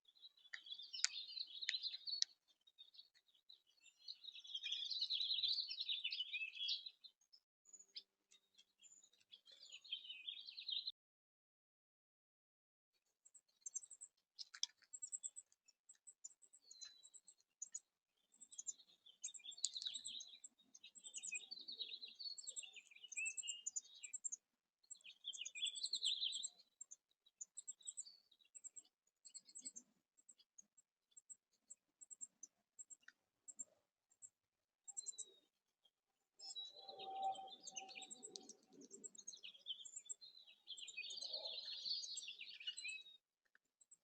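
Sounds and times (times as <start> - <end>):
high ticking bird calls: 0.0 - 7.1, 13.2 - 35.5, 36.4 - 43.2
songbirds chirping and twittering: 0.0 - 11.0, 13.0 - 44.0.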